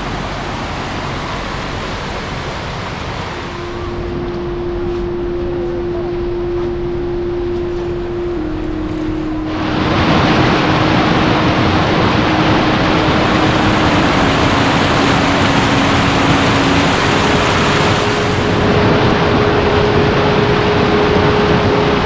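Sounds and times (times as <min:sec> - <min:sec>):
heavy rain falling: 0:00.0 - 0:04.2, 0:08.5 - 0:22.0
faint steady hum: 0:00.0 - 0:22.0.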